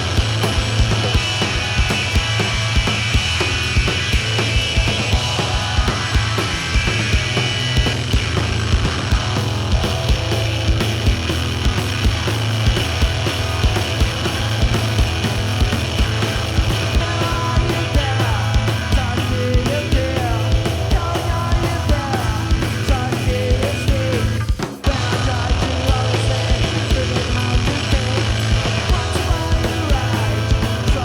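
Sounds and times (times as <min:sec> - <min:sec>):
driving drum beat: 0:00.0 - 0:31.0
live band playing fast rock: 0:00.0 - 0:31.0.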